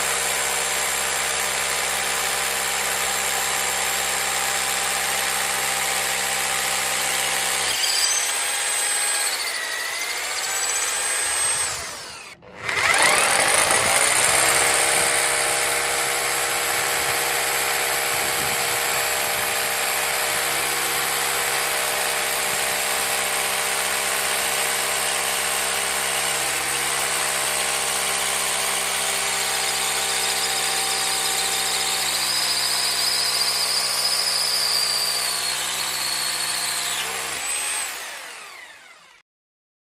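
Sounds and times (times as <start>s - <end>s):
rotary hammer motor whine: 3.2s - 39.2s.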